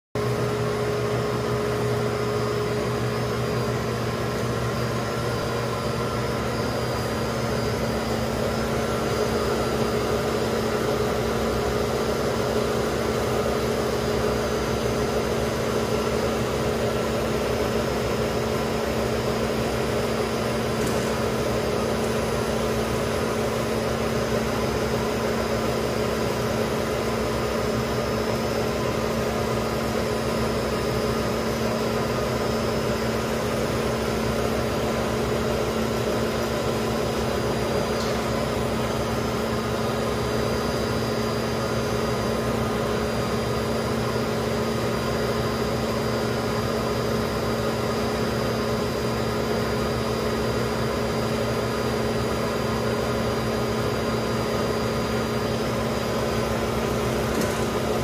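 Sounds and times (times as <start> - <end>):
machine motor hum and whir: 0.2 - 58.0.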